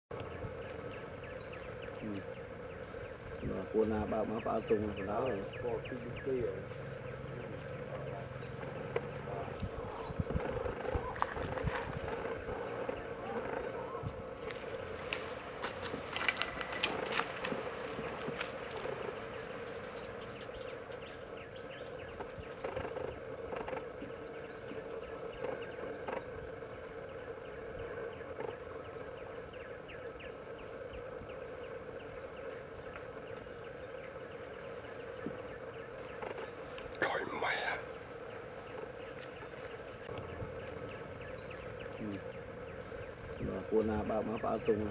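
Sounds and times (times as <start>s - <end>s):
outdoor drone: 0.1s - 44.9s.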